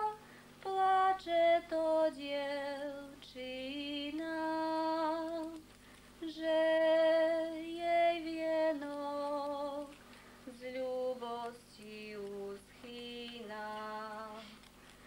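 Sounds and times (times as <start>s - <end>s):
woman singing unaccompanied: 0.0s - 14.7s.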